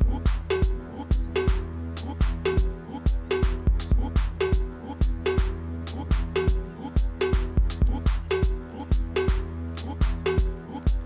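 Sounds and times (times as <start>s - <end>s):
repeating bass line: 0.0s - 11.0s
steady drum beat: 0.0s - 11.0s.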